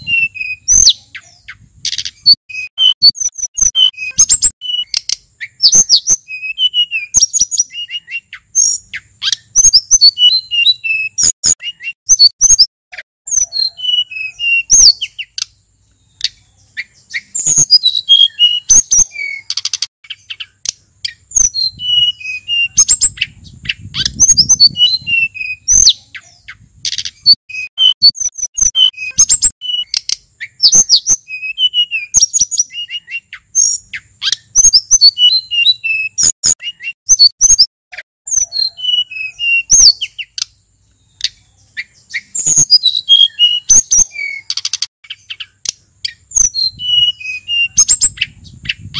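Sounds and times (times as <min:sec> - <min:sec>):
songbird chirping and whistling: 0:00.0 - 0:48.9.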